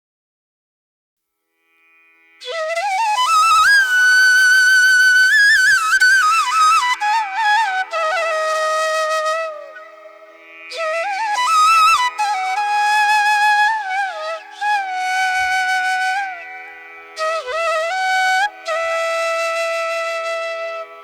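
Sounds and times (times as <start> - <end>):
flute melody: 2.4 - 21.0.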